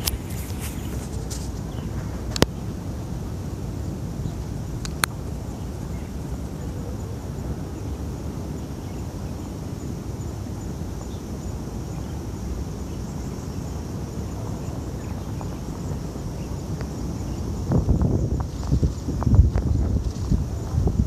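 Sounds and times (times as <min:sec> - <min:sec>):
insects chirring: 0:00.0 - 0:21.0
wind rumbling on microphone: 0:00.0 - 0:21.0.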